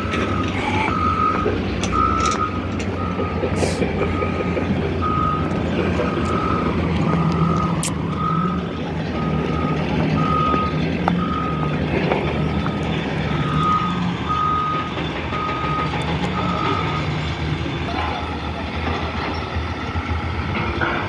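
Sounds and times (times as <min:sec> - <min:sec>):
reversing alarm beeping: 0:00.0 - 0:18.7
diesel engine running: 0:00.0 - 0:21.0.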